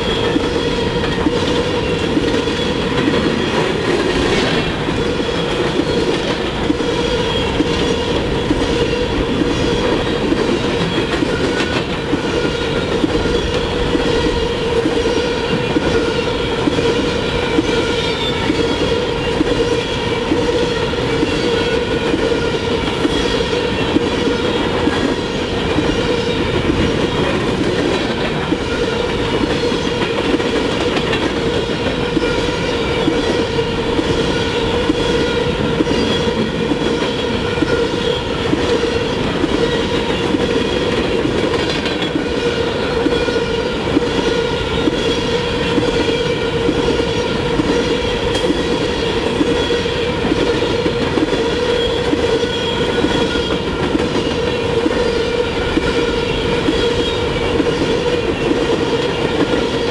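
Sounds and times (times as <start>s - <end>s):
train wheels rumbling and clacking: 0.0s - 59.9s.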